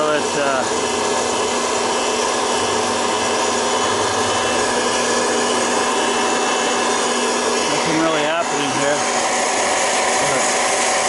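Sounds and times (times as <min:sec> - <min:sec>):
popcorn popper blower whirring: 0:00.0 - 0:11.0.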